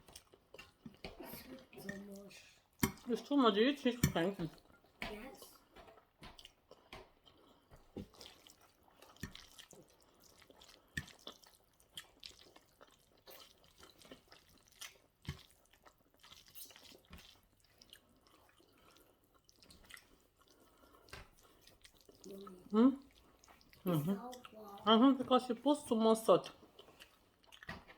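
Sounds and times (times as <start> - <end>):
wet chewing mouth noises: 0.0 - 25.0, 26.3 - 27.9.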